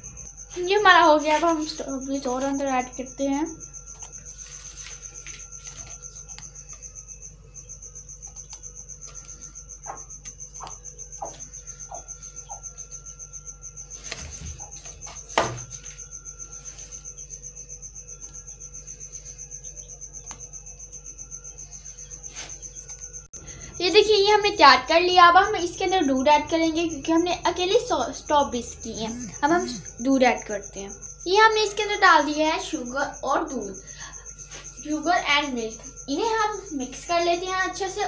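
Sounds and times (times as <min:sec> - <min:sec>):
cricket chirping: 0:00.0 - 0:38.0.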